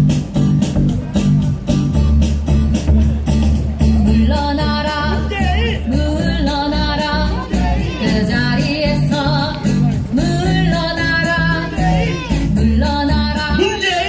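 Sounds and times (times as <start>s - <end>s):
instrumental backing with bass beat: 0.0s - 14.0s.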